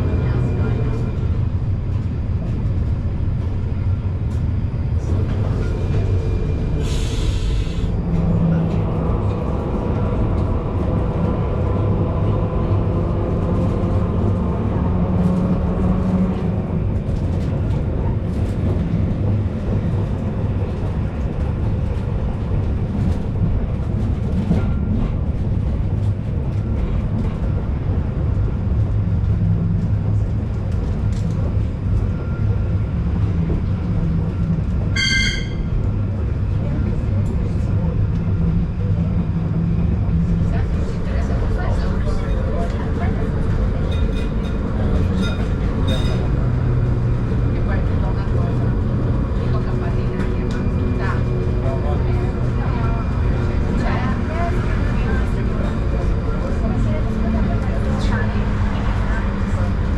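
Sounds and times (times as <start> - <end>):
tram rumbling: 0.0 - 59.9.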